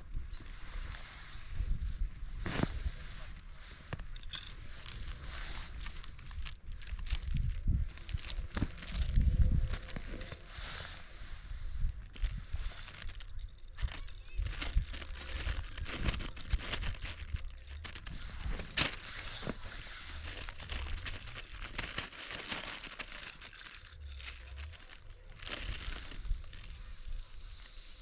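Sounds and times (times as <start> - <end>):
crinkling and rustling: 0.0 - 28.0
sharp crackle: 3.3 - 28.0.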